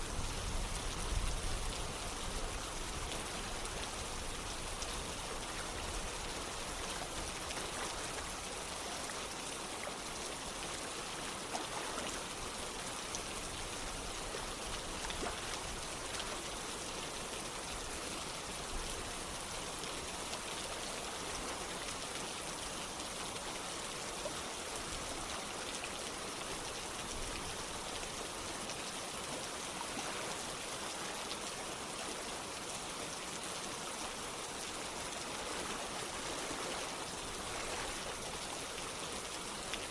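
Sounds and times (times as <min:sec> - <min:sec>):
running water: 0:00.0 - 0:39.9
steady rain: 0:00.0 - 0:39.9.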